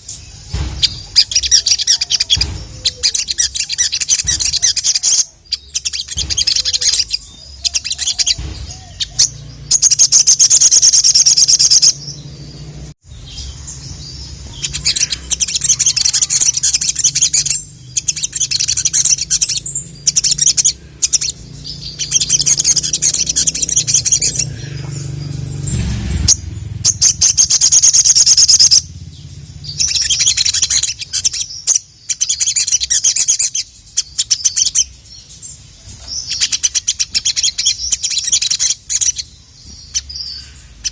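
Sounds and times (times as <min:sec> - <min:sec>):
sunbird high-pitched chattering song: 0:00.0 - 0:40.9.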